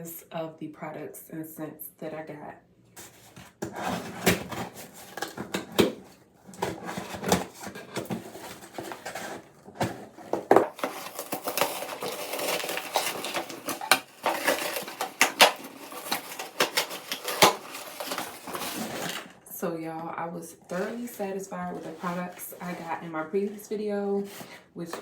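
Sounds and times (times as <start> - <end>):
cardboard and paper crinkling: 3.0 - 19.4, 20.7 - 25.0.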